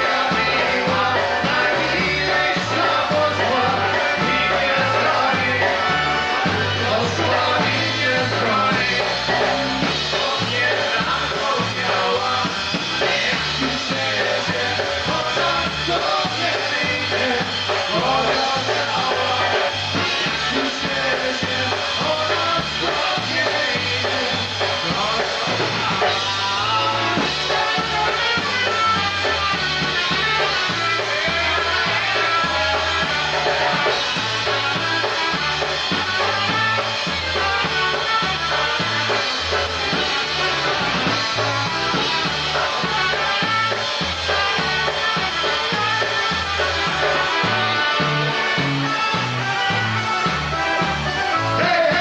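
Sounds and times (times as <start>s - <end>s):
bouncing bass line: 0.0s - 52.0s
polka band playing: 0.0s - 52.0s.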